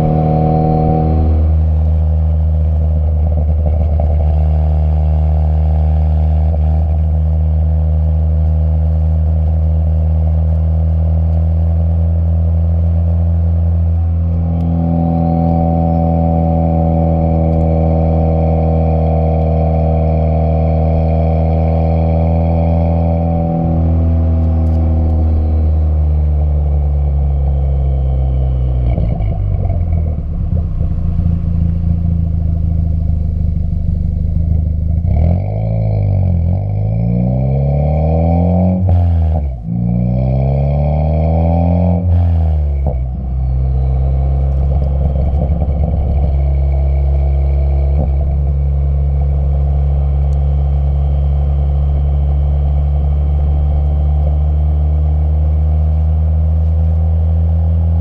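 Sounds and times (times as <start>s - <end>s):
car engine exhaust note: 0.0s - 58.0s.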